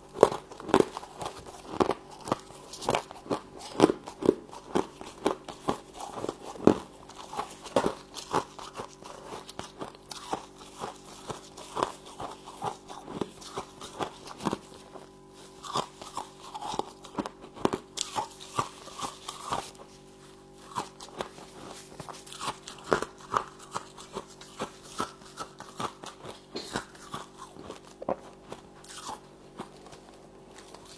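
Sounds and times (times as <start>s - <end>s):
frost crunching while chewed: 0.0s - 30.9s.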